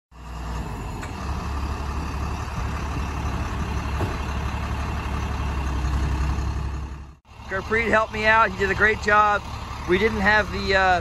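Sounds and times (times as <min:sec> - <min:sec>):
truck engine idling: 0:00.1 - 0:11.0.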